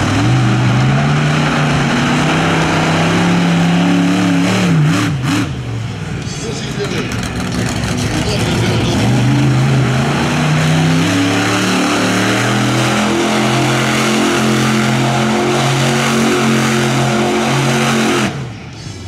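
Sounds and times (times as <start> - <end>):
engine running hard: 0.0 - 19.0.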